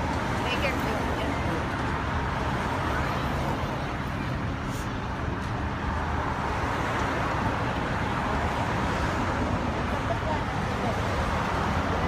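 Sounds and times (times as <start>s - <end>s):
vehicles driving past: 0.0s - 12.0s.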